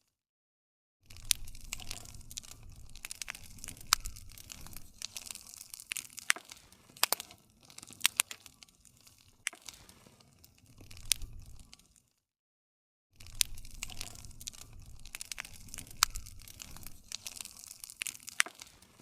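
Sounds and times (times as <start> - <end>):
campfire crackling and popping: 1.1 - 12.1, 13.2 - 19.0.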